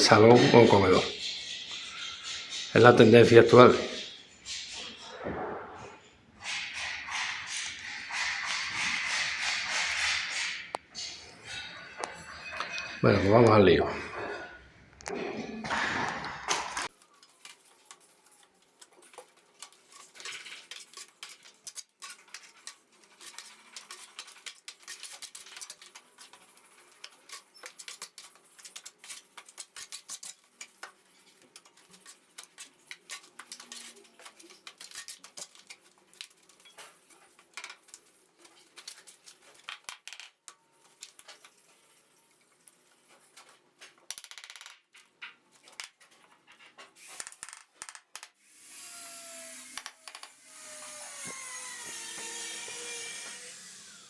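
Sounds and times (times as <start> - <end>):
plastering tools clinking and scraping: 0.0 - 54.0.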